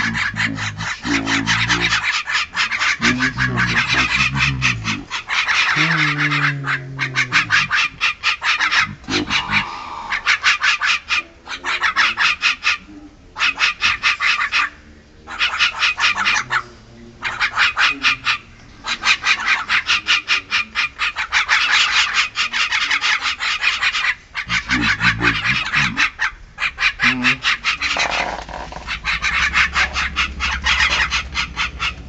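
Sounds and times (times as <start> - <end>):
mynas chattering: 0.0 - 32.0.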